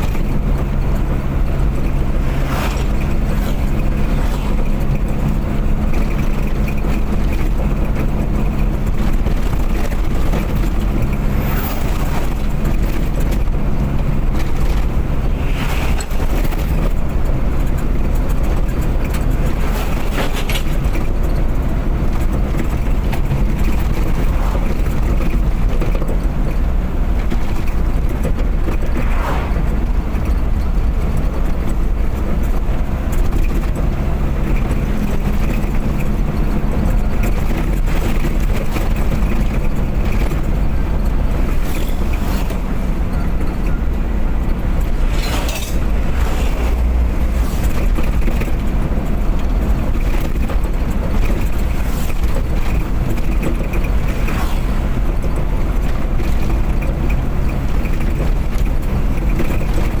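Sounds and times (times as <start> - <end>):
car engine hum: 0.0 - 60.0
road rumble: 0.0 - 60.0.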